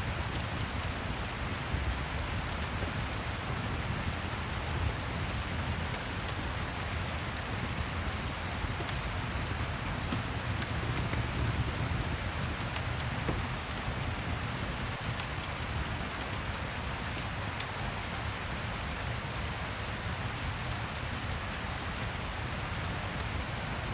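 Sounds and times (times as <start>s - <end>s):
faint fire crackles: 0.0s - 23.9s
steady rain: 0.0s - 23.9s.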